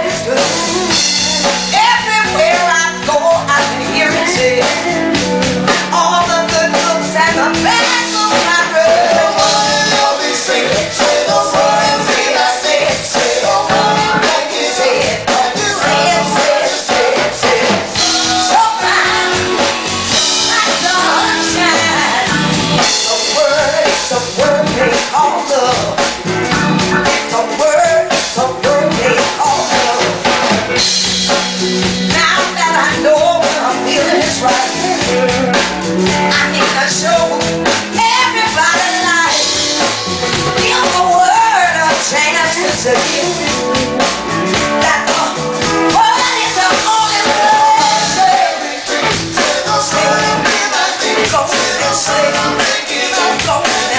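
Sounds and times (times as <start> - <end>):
woman singing: 0.0 - 26.1, 26.8 - 30.5, 32.1 - 53.9
electric guitar: 0.0 - 53.9
live soul band music: 0.0 - 53.9.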